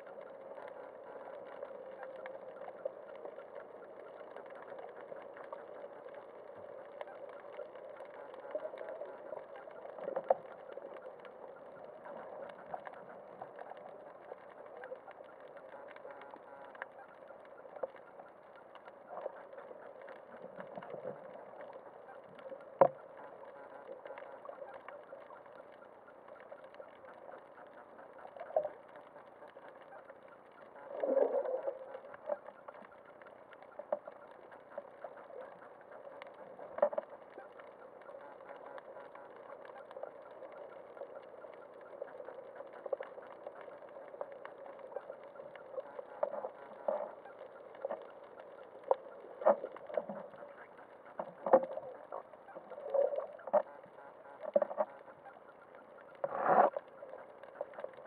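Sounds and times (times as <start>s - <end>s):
underwater low hum: 0.0s - 58.0s.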